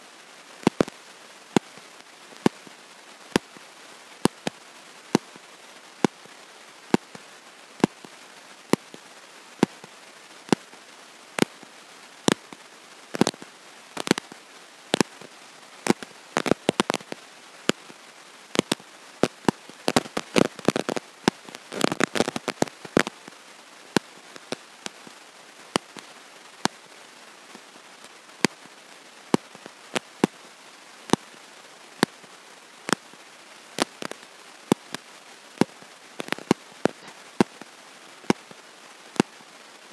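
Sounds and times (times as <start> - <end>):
electrical clicks and crackles: 0.6 - 7.2, 7.8 - 10.8, 11.4 - 26.9, 27.5 - 30.4, 31.1 - 31.4, 32.9 - 33.2, 33.8 - 39.4.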